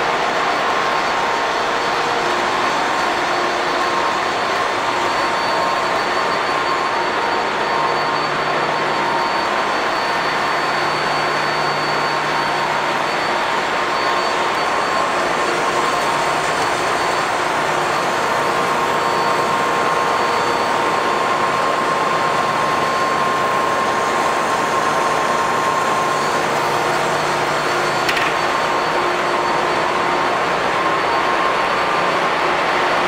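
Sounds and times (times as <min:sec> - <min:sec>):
diesel engines running: 0:00.0 - 0:33.0
steady machinery whine: 0:00.0 - 0:33.0.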